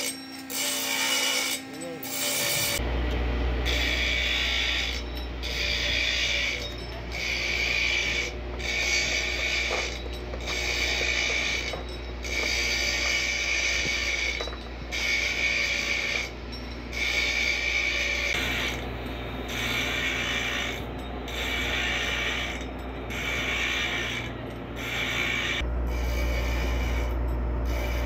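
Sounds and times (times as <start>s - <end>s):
steady low hum: 1.4s - 28.0s
repeating mechanical whirr: 3.6s - 28.0s.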